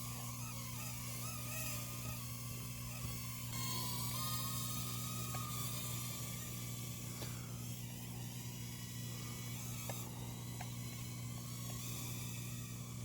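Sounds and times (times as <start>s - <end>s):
toy drone buzzing: 0.0s - 13.0s.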